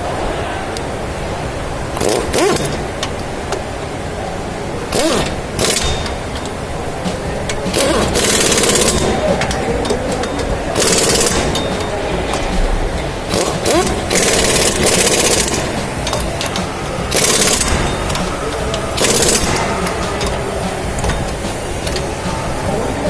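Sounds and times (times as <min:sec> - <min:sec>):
pneumatic impact wrench hammering: 0:02.0 - 0:03.8, 0:04.9 - 0:22.6.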